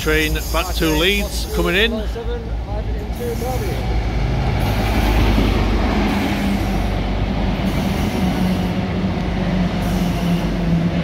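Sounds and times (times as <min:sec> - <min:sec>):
diesel trains rumbling past: 0:00.0 - 0:11.0.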